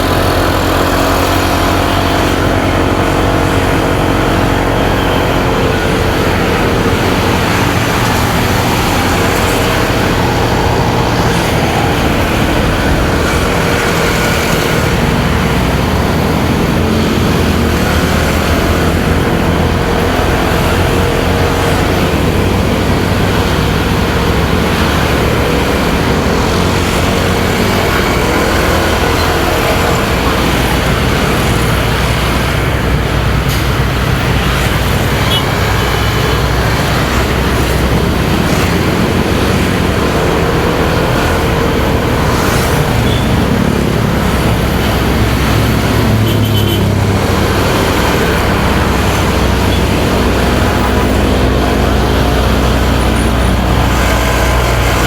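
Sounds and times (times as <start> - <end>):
motorcycle engine running: 0.0 - 55.0
road traffic rumble: 0.0 - 55.0.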